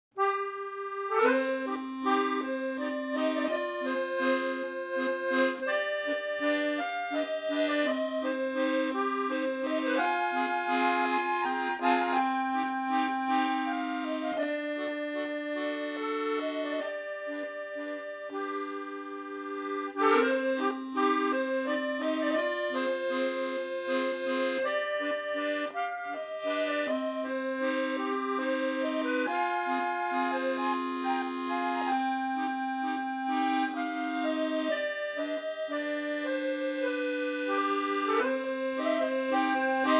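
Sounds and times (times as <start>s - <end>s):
slow accordion tune: 0.1s - 39.9s.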